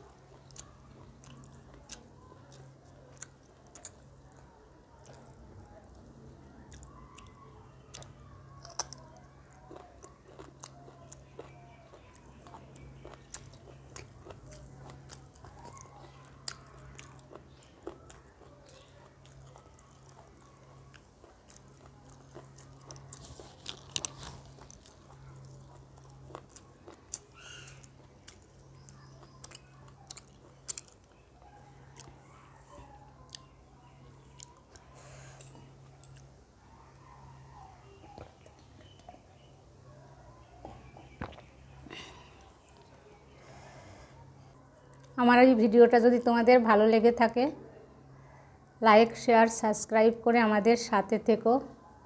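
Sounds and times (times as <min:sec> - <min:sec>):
person chewing food: 0:00.0 - 0:45.2
faint low hum: 0:00.0 - 0:52.0.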